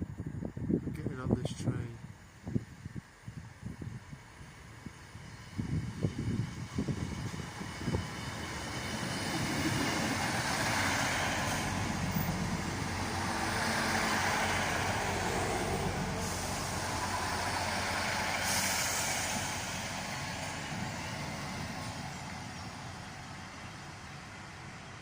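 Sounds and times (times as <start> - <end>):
diesel train rumbling past: 1.5 - 25.0.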